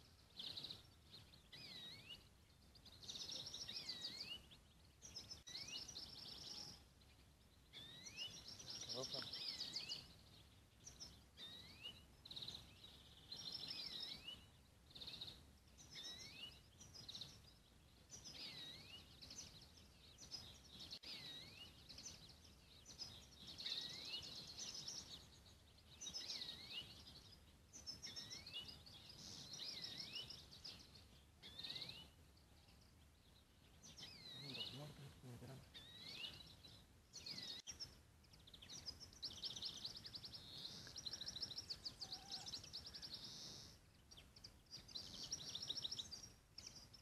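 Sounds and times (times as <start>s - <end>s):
finches singing: 0.0s - 47.0s.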